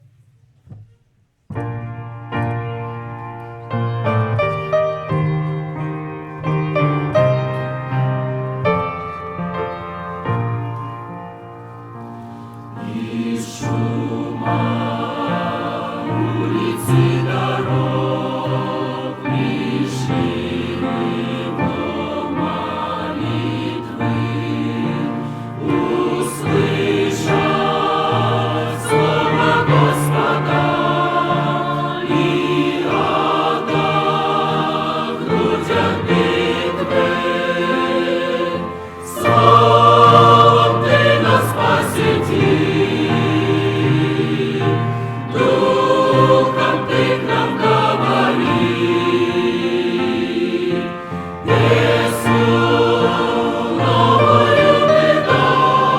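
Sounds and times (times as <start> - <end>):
choir singing a hymn: 3.8 - 55.9.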